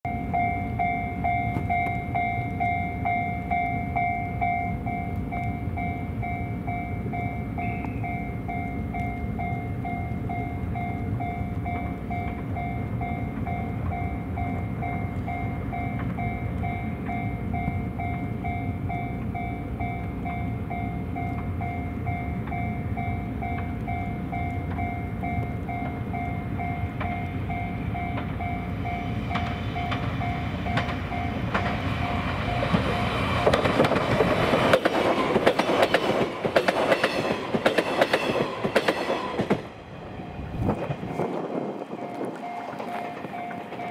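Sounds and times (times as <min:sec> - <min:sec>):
train wheel clicks on rails: 0:00.1 - 0:39.8, 0:40.7 - 0:43.9
low train rumble: 0:00.1 - 0:43.9.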